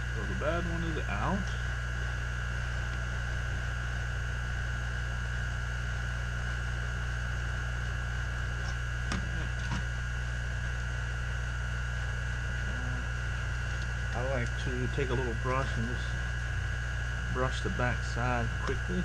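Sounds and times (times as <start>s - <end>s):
electrical mains hum: 0.0s - 19.0s
high whine: 0.0s - 19.0s.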